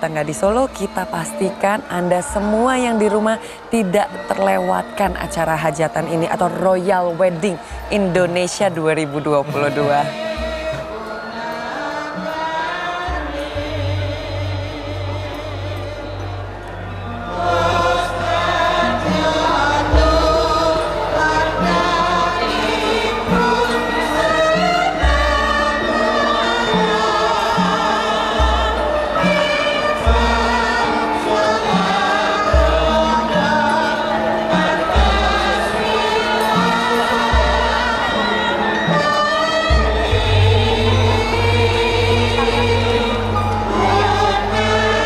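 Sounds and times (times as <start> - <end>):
gamelan music: 0.0 - 45.0
voices singing: 0.0 - 45.0.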